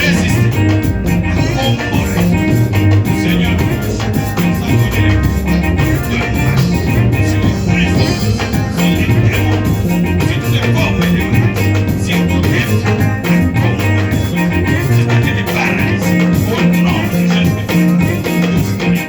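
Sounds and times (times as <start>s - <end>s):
bass line: 0.0s - 19.0s
upbeat band music: 0.0s - 19.0s.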